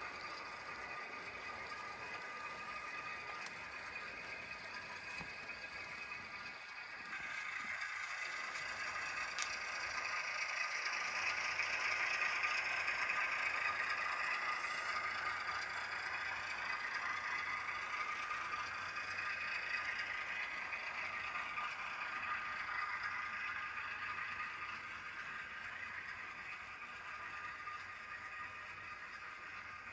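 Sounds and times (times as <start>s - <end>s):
diesel engine sound from small speaker: 0.0s - 29.9s
model running gear clattering on track: 0.0s - 29.9s.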